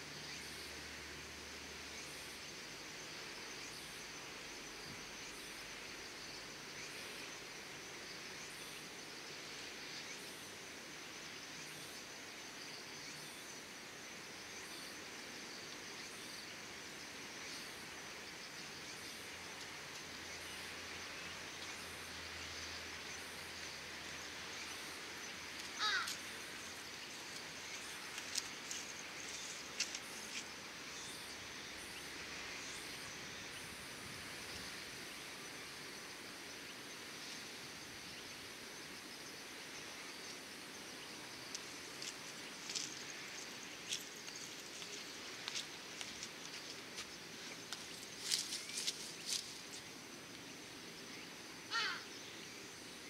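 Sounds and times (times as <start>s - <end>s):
low even hiss: 0.0s - 53.0s.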